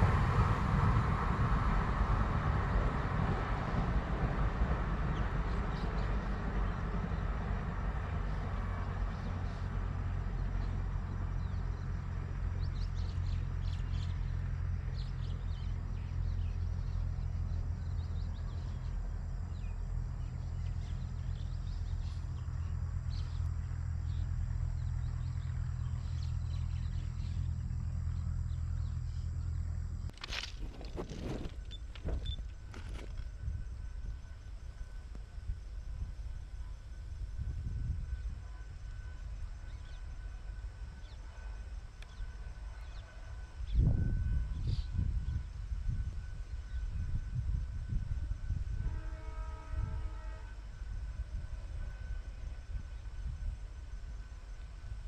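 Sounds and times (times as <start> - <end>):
distant diesel locomotive drone: 0.0 - 55.0
train coaches rumbling on rails: 0.0 - 55.0.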